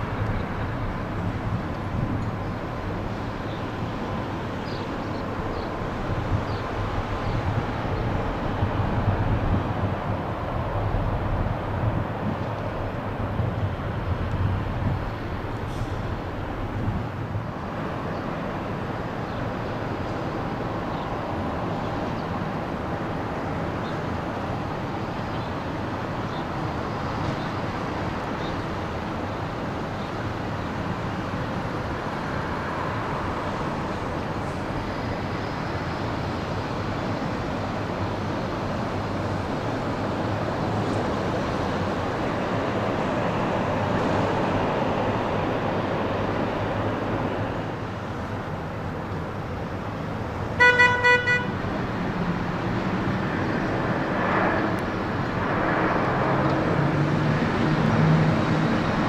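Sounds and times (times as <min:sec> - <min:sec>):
jet engines at low power: 0:00.0 - 0:59.0.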